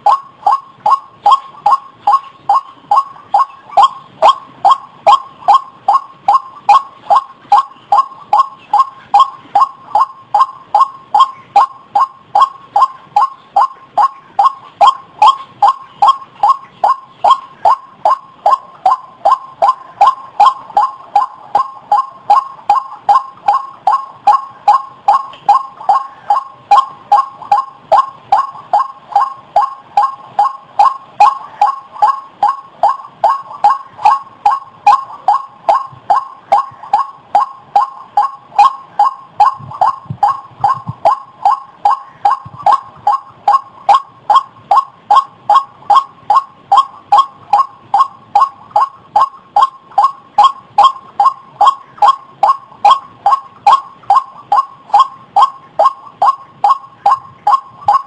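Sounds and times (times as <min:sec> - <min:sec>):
waterhen calling: 0:00.0 - 0:58.0.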